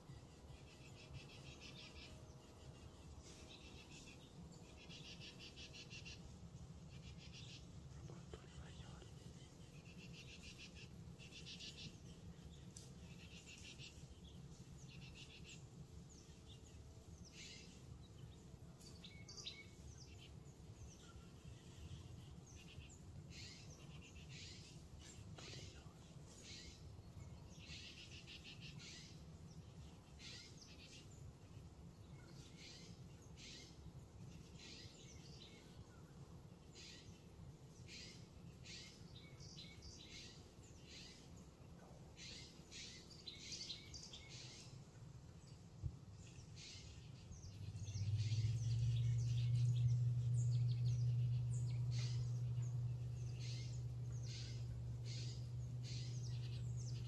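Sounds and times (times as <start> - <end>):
small birds chirping: 0.0 - 57.0
steady low hum: 0.0 - 57.0
faint low rumble: 0.1 - 57.0.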